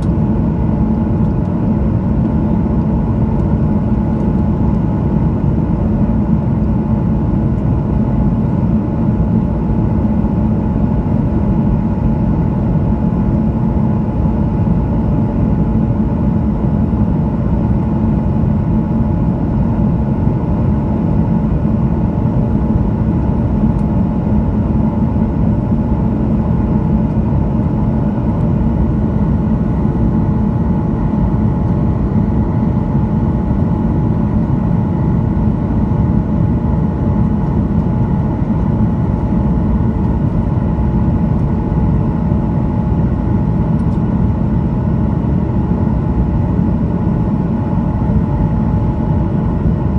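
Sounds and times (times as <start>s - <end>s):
airplane cabin engine hum: 0.0s - 49.9s.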